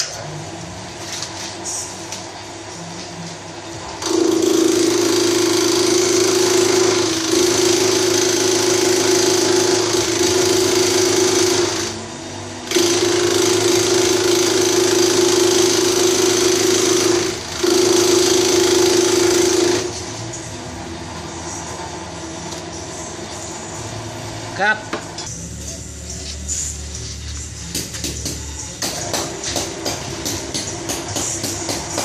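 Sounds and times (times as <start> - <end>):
leaf slicing machine running: 3.8 - 32.0.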